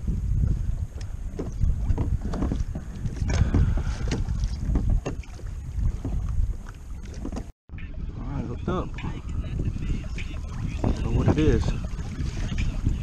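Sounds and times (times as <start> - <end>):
water slapping against kayak hull: 0.0 - 7.5, 8.5 - 13.0
wind buffeting microphone: 0.0 - 13.0.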